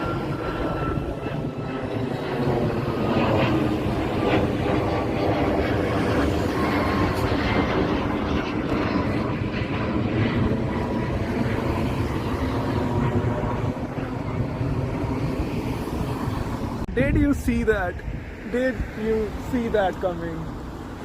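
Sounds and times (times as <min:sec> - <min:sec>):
airliner engines at takeoff: 0:00.0 - 0:21.0.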